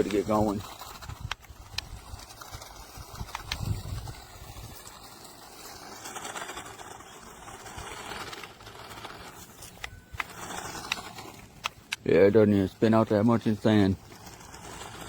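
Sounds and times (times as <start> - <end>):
toy truck motor whirring: 0.0 - 15.0
tyres churning sand: 0.0 - 15.0.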